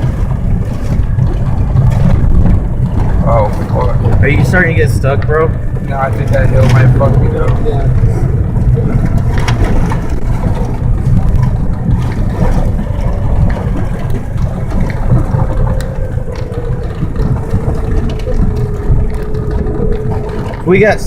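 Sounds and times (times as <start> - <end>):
car engine running under load: 0.0 - 21.0
tyres rumbling on snowy dirt road: 0.0 - 21.0.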